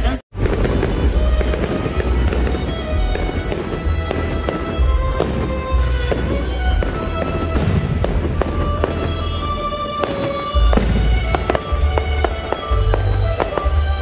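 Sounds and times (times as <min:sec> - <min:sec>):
music playing: 0:00.0 - 0:14.0
fireworks bangs and crackling: 0:00.3 - 0:14.0.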